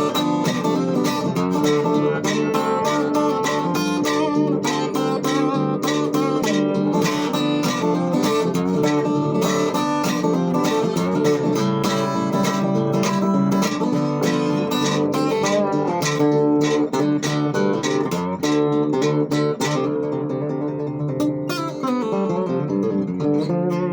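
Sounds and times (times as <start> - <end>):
acoustic guitar picking and strumming: 0.0 - 23.9.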